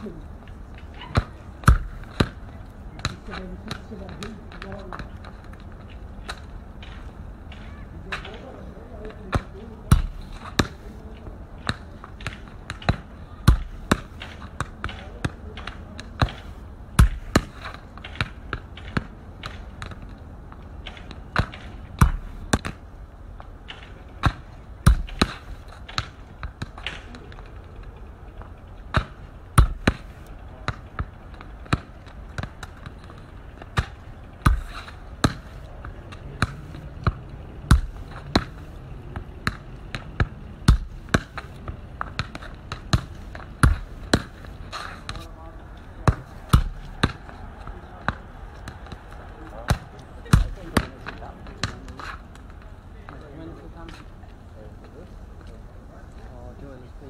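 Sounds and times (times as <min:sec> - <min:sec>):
football thudding on foot and ground: 0:00.7 - 0:08.4, 0:09.0 - 0:11.0, 0:11.6 - 0:22.8, 0:23.4 - 0:27.5, 0:28.4 - 0:53.2.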